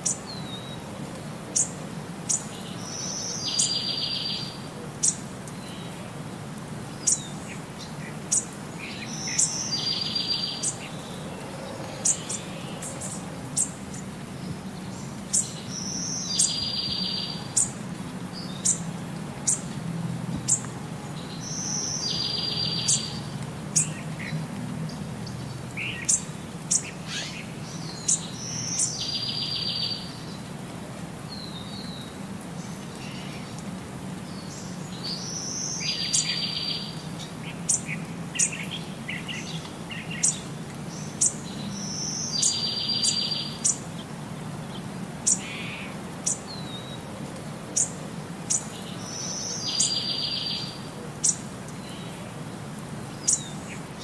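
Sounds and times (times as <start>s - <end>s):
birds chirping: 1.5s - 6.0s, 6.8s - 19.7s, 20.3s - 30.5s, 34.2s - 47.0s, 47.8s - 52.3s, 53.0s - 54.0s.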